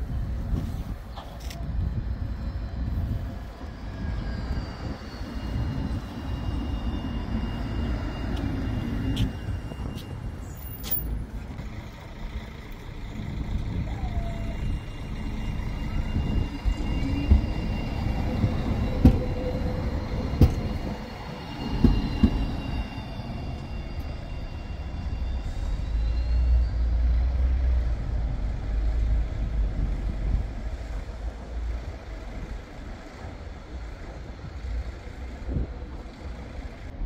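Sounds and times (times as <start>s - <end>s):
electric tram whine: 0.0s - 37.0s.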